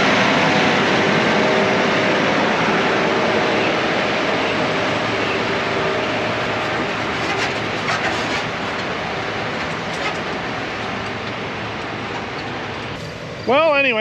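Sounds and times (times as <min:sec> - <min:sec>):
harvest machinery running: 0:00.0 - 0:14.0.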